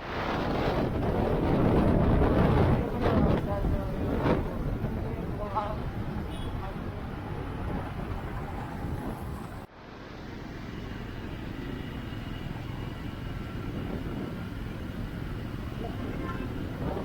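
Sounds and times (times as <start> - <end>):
wind buffeting microphone: 0.0 - 9.7, 10.8 - 17.0.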